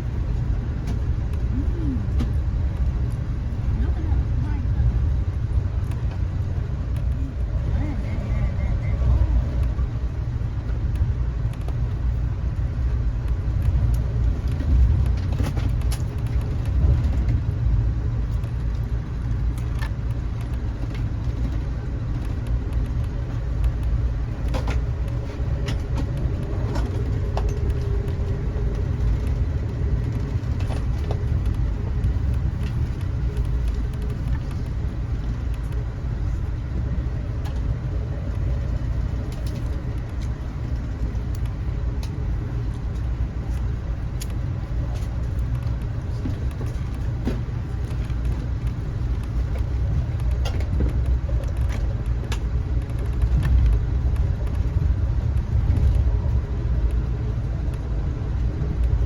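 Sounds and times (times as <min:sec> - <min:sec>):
train rumbling inside carriage: 0:00.0 - 0:59.0.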